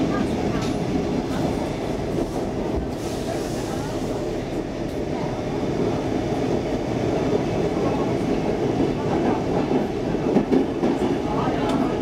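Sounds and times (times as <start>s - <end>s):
subway wheels on rail: 0.0s - 12.0s.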